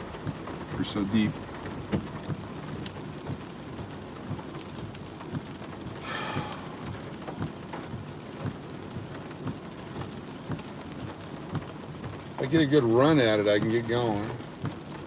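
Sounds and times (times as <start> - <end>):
heavy rain drumming on a car: 0.0 - 15.0.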